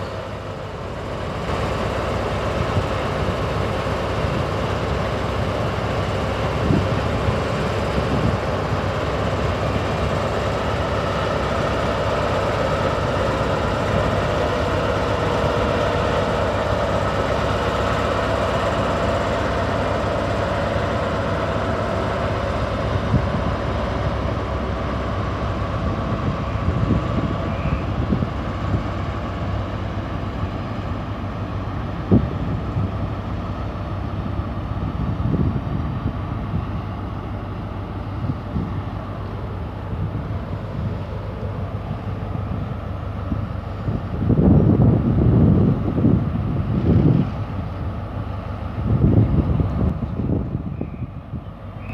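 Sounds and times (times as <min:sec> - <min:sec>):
train engine and rail noise: 0:00.0 - 0:51.9.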